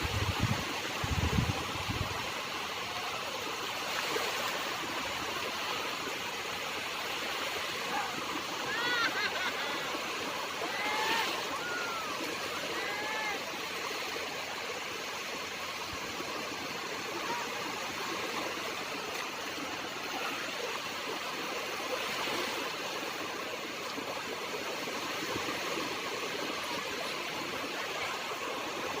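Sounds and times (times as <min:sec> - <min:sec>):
sea water rushing: 0:00.0 - 0:29.0.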